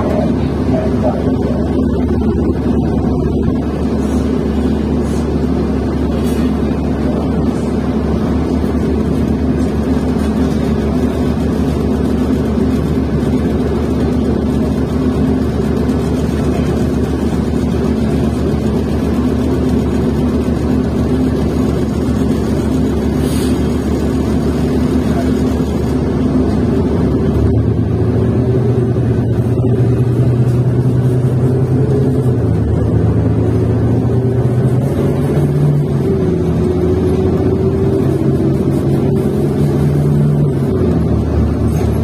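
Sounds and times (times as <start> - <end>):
bus engine running: 0.0 - 42.0
strong low hum: 0.0 - 42.0.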